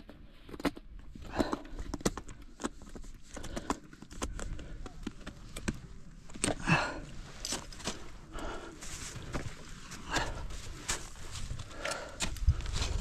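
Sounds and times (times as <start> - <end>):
climbing gear clicking on rock and ice: 0.1 - 13.0.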